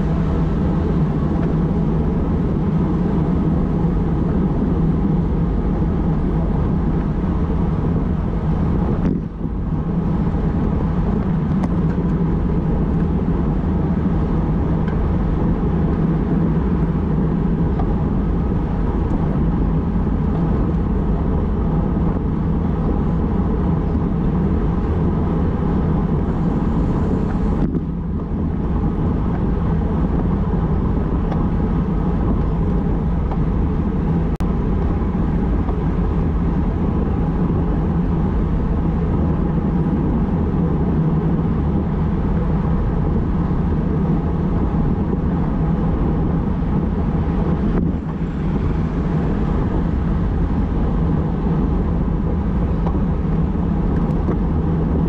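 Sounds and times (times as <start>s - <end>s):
wind rush on microphone: 0.0s - 55.0s.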